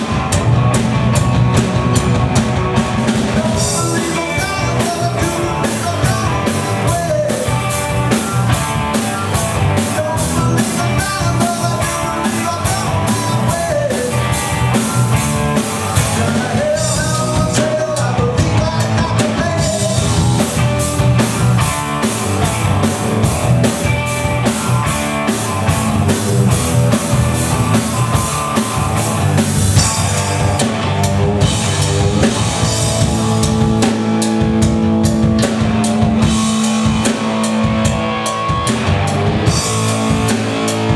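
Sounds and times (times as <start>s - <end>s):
drum kit beat: 0.0s - 40.9s
electric guitars: 0.0s - 40.9s.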